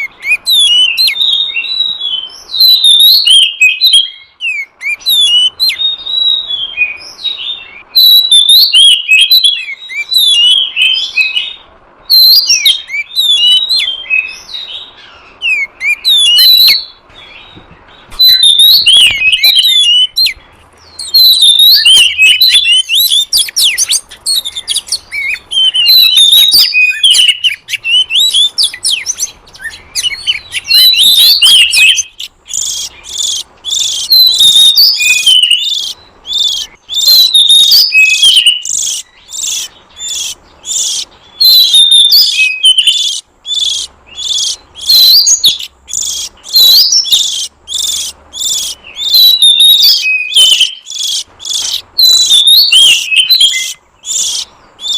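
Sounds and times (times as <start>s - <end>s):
bird song with whistles and trills: 0.0s - 54.9s.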